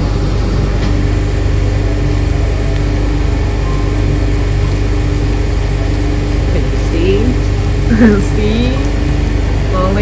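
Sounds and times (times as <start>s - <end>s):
faint constant hum: 0.0s - 10.0s
low machine rumble: 0.0s - 10.0s.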